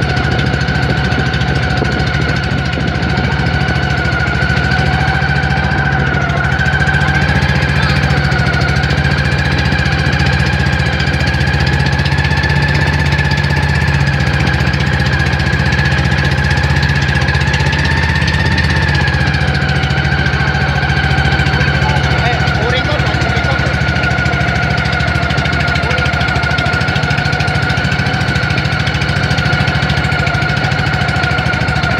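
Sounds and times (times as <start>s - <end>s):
boat engine running: 0.0s - 31.9s.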